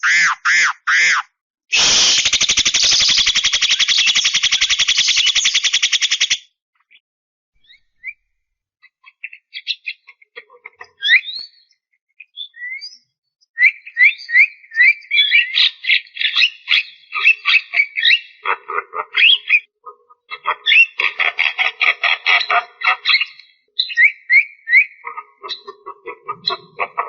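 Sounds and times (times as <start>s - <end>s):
bird whistling and chattering: 0.0s - 6.4s, 7.6s - 8.2s, 8.8s - 18.5s, 19.1s - 21.0s, 22.4s - 27.0s.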